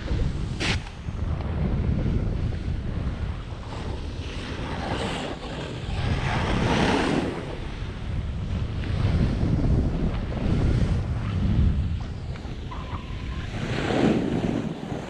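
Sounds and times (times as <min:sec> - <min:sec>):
board scraping over snow: 0:00.0 - 0:15.0
wind rumbling on microphone: 0:00.0 - 0:15.0.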